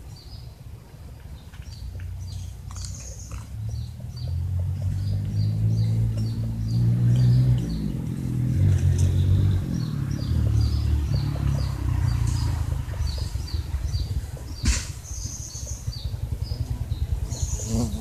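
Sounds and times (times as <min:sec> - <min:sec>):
low engine hum: 0:00.0 - 0:18.0
small bird chirping: 0:01.2 - 0:08.2, 0:08.9 - 0:18.0.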